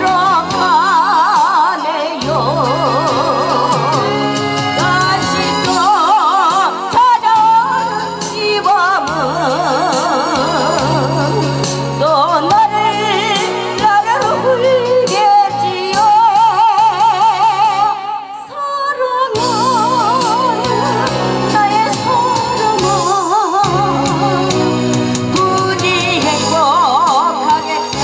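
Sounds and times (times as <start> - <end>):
amplified backing music: 0.0 - 28.0
woman singing with vibrato: 0.0 - 28.0.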